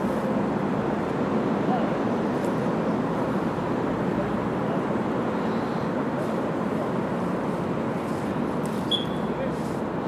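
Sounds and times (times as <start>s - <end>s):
outdoor rushing hum: 0.0s - 10.0s.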